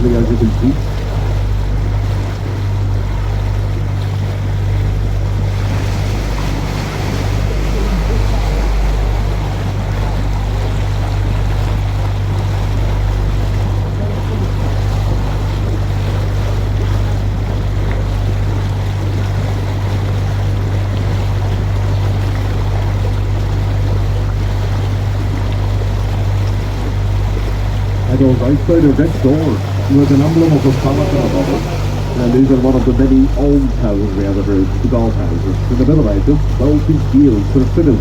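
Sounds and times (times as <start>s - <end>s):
boat engine droning: 0.0s - 38.0s
water and air rushing: 0.0s - 38.0s.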